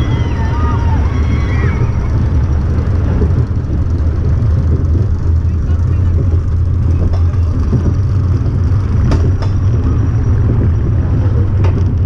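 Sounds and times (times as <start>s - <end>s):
roller coaster low rumble: 0.0s - 12.0s.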